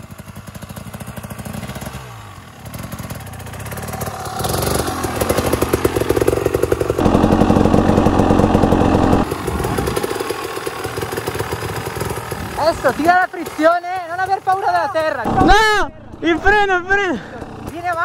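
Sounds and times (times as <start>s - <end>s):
dirt bike engine revving: 0.2s - 18.0s.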